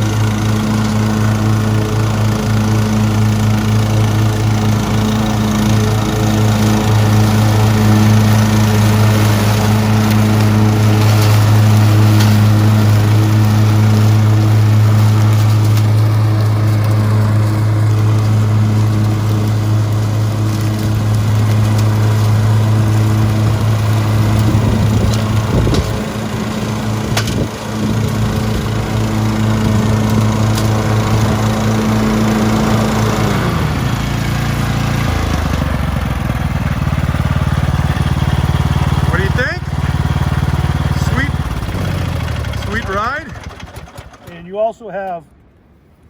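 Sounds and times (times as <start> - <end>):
lawnmower engine running: 0.0 - 45.7.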